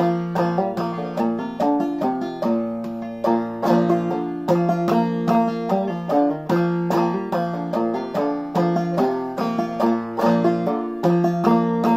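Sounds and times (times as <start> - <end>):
banjo played clawhammer style: 0.0 - 11.9.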